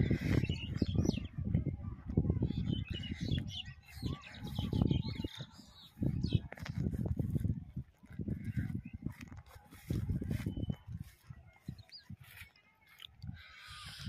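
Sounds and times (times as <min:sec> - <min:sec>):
birds chirping: 0:00.0 - 0:14.0
wind buffeting microphone: 0:00.0 - 0:14.0.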